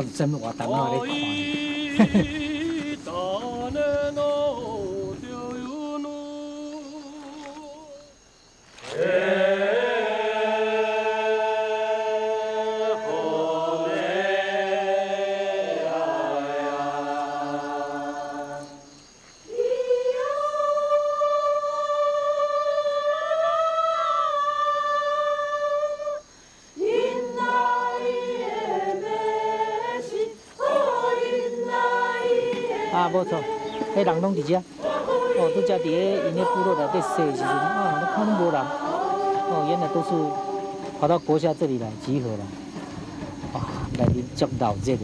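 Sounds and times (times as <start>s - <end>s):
choir singing in several parts: 0.0s - 8.1s, 8.8s - 44.1s.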